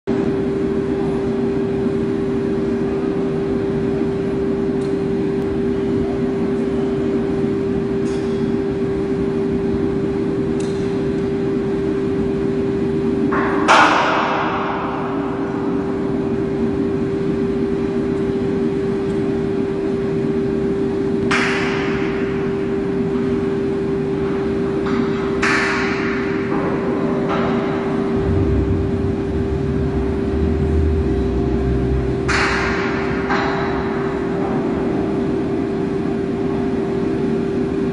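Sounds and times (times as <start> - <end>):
machinery drone: 0.1 - 37.9.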